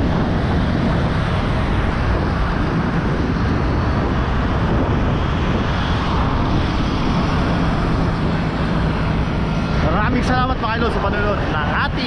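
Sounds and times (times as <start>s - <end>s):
road traffic: 0.0s - 12.0s
wind on microphone: 0.0s - 12.0s.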